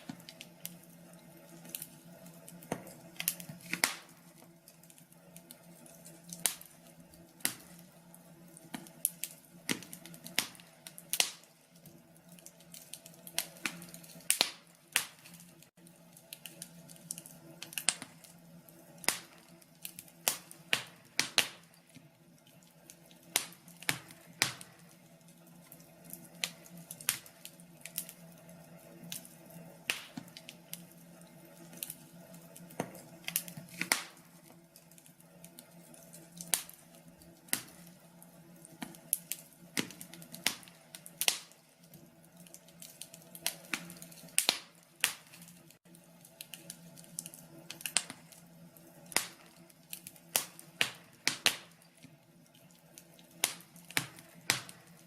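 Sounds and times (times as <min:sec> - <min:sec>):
wood fire popping and snapping: 0:00.0 - 0:55.0.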